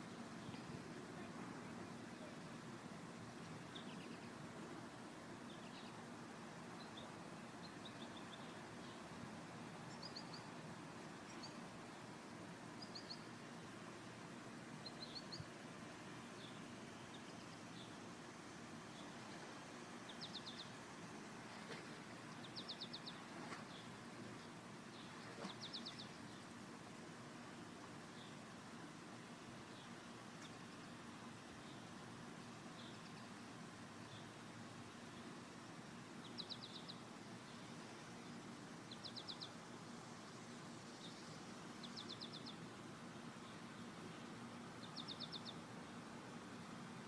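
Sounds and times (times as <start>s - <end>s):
low background noise: 0.0s - 47.0s
songbirds chirping and trilling: 3.5s - 47.0s.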